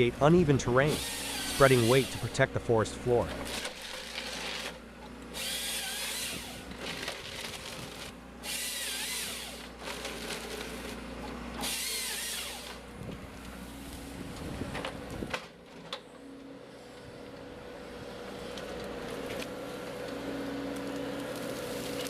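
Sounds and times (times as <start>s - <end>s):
saw cutting through logs: 0.0s - 15.3s, 16.2s - 22.0s
machine engine hum: 0.0s - 22.0s.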